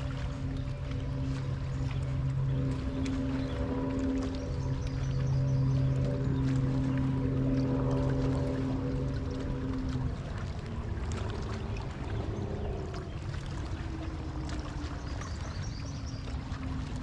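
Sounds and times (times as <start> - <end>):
boat engine rumble: 0.0 - 17.0
light water sounds: 0.0 - 17.0.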